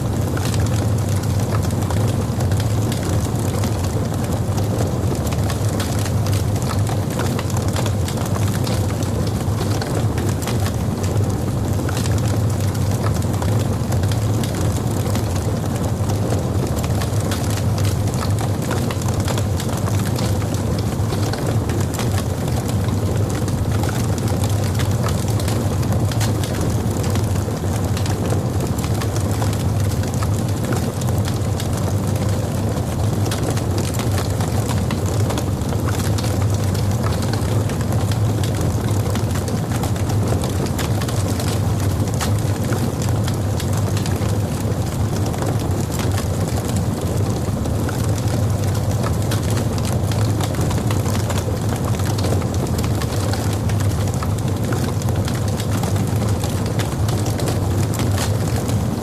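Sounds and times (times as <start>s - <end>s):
burning wood crackling and popping: 0.0s - 59.0s
low rumble of flame: 0.0s - 59.0s.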